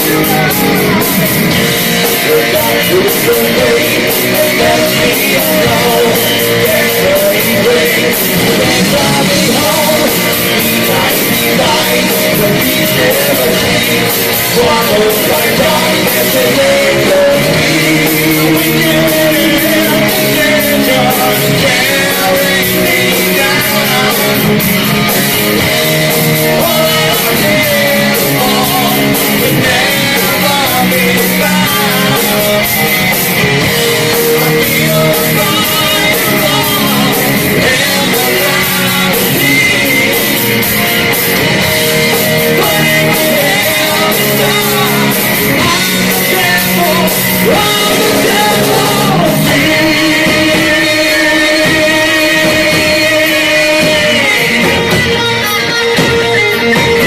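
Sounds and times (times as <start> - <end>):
distorted electric guitars: 0.0 - 57.0
drums: 0.0 - 57.0
vocals: 0.0 - 57.0.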